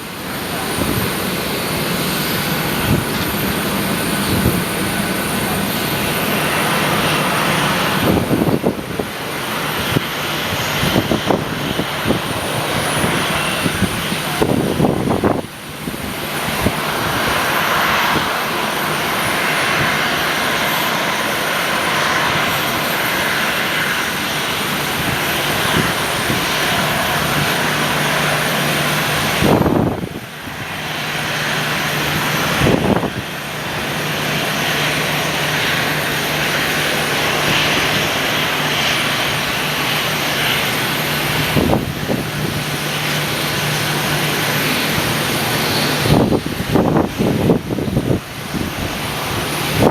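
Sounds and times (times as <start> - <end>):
airliner engines running: 0.0 - 49.9
wind buffeting microphone: 0.0 - 49.9.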